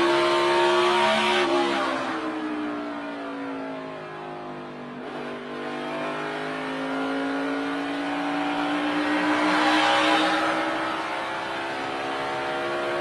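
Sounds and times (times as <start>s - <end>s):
race car engine from inside: 0.0s - 13.0s.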